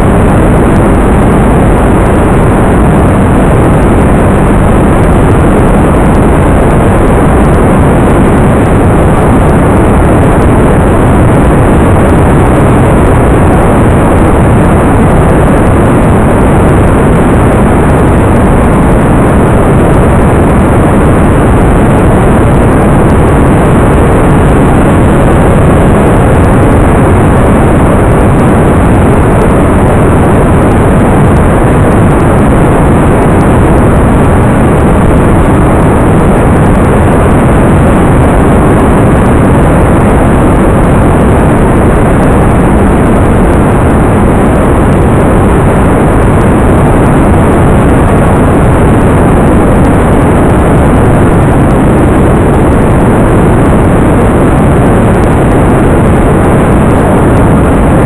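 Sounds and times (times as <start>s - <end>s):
steady wind and motor rushing: 0.0s - 58.0s.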